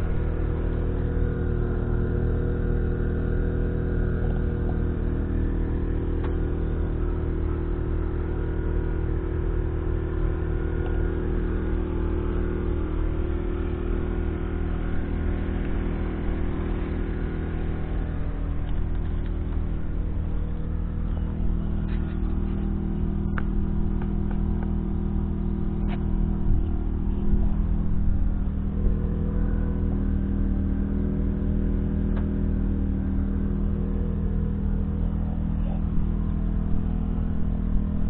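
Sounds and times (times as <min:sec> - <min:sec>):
tractor diesel engine idling: 0:00.0 - 0:38.0.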